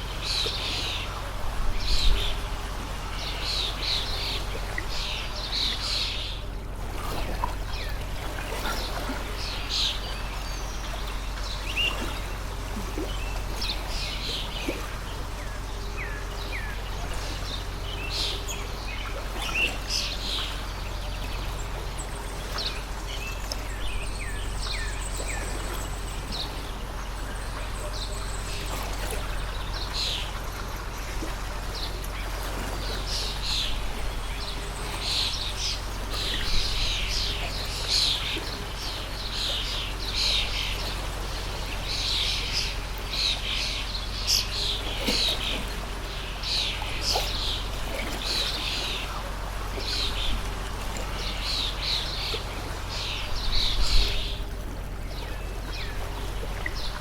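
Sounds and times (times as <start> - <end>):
stream of water flowing: 0.0 - 57.0.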